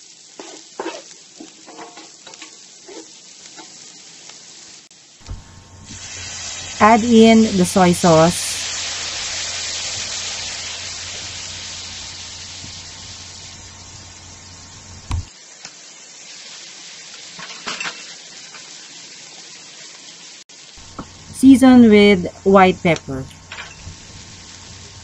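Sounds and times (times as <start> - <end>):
soy sauce sizzling in hot pan: 0.0 - 21.9, 23.3 - 25.0.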